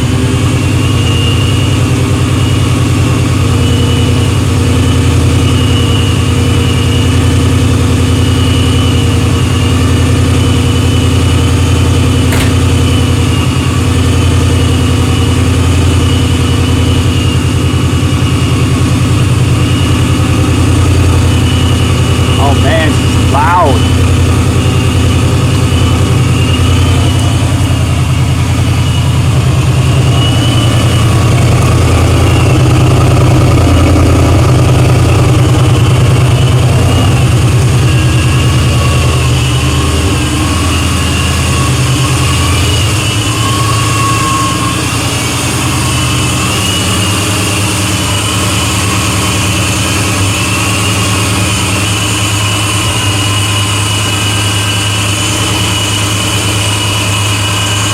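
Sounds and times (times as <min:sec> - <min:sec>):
car engine idling raspy exhaust: 0:00.0 - 0:57.9.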